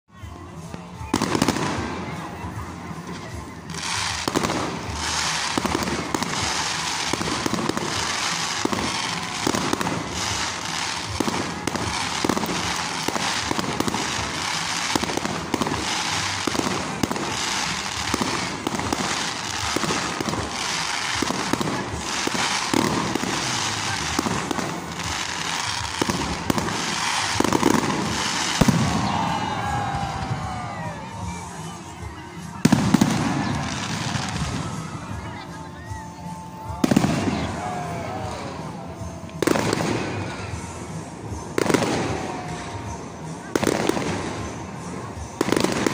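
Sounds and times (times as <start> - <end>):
fireworks bursting: 0.2 - 45.9
fireworks crackle: 0.2 - 45.9.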